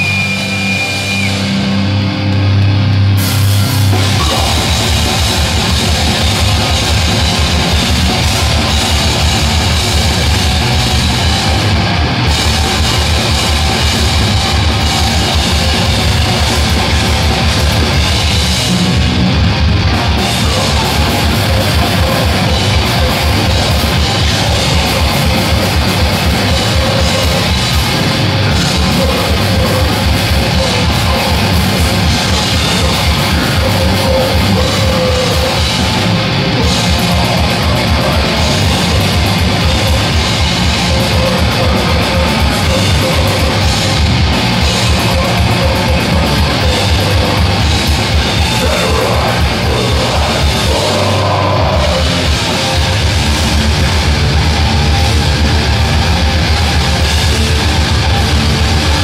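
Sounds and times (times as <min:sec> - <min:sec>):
bass guitar: 0:00.0 - 0:59.0
drums: 0:00.0 - 0:59.0
heavily distorted electric guitars: 0:00.0 - 0:59.0
rapid kick drum beat: 0:03.9 - 0:59.0.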